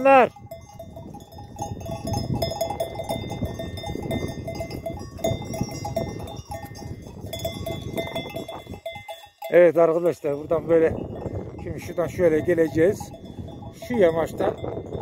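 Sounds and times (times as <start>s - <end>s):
sheep bells clinking: 0.0s - 15.0s
wind rumbling on microphone: 0.2s - 9.1s, 10.4s - 15.0s.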